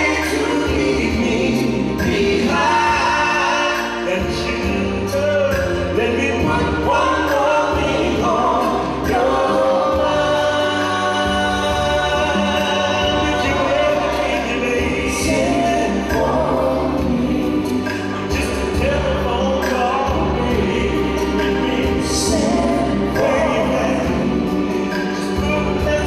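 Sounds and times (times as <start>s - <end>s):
man singing into a microphone: 0.0s - 24.4s
backing voices harmonising: 0.0s - 26.0s
steady bass line: 0.0s - 26.0s.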